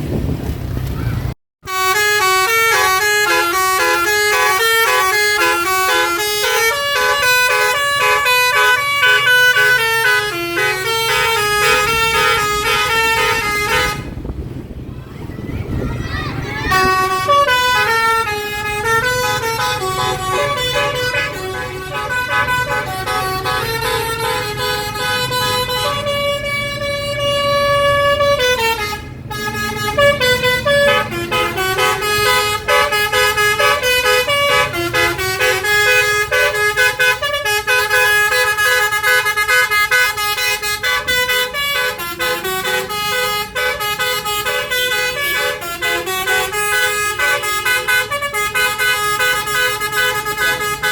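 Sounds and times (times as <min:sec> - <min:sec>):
low vehicle rumble: 0:00.0 - 0:50.9
bus horn playing a melody: 0:01.6 - 0:14.3, 0:16.6 - 0:50.9.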